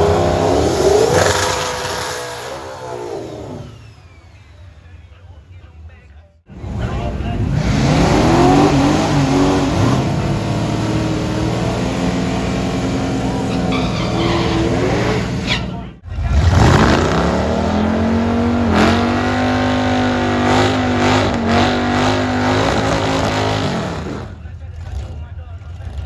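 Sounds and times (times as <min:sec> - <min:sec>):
engine revving high: 0:00.0 - 0:05.1, 0:06.5 - 0:26.0
drag car engines running: 0:00.0 - 0:26.0.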